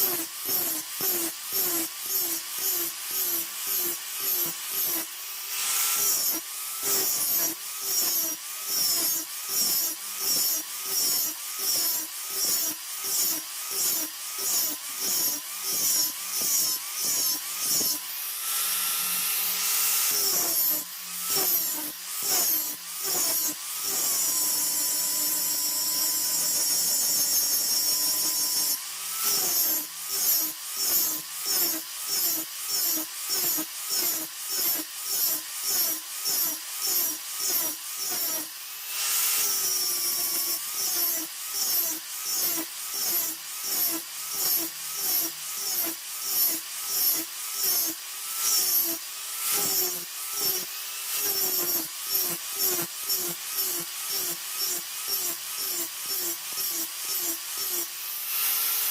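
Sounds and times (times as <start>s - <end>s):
electric power tool motor: 0.0s - 58.9s.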